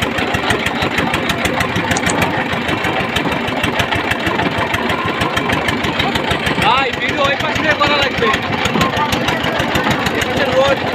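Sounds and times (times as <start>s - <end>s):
boat engine clattering: 0.0s - 10.9s.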